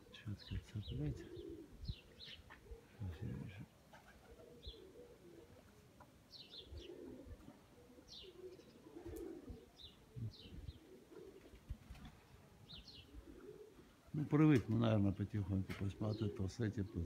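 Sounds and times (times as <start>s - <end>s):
faint pigeon cooing: 0.0s - 17.0s
small birds chirping: 0.0s - 17.0s.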